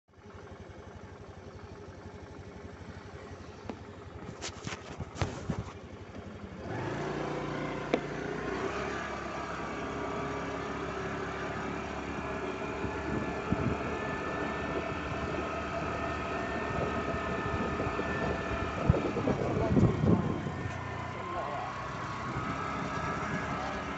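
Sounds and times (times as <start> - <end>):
motor scooter engine running: 0.1 - 23.9
road and wind noise: 0.2 - 23.9.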